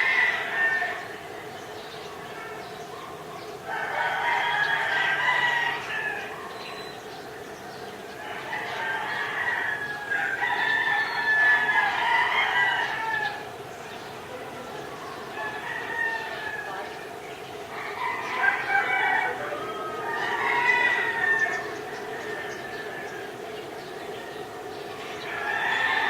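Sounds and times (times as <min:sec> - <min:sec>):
roosters crowing: 0:00.0 - 0:26.0.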